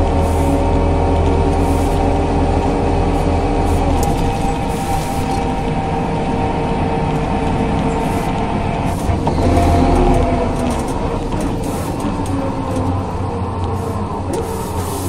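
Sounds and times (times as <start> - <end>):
bus diesel engine running: 0.0 - 15.0
gearbox whine: 0.0 - 15.0.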